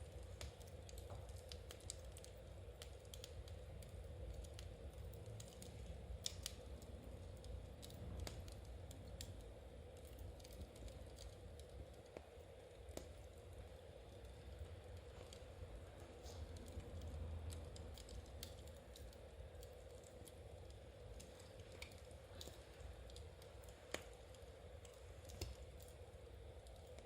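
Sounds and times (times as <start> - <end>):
fireplace fire crackling: 0.0 - 27.0
low steady hum: 0.0 - 27.0.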